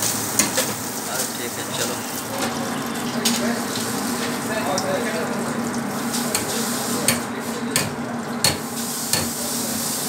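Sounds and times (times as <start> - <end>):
oil sizzling in deep fryer: 0.0 - 10.0.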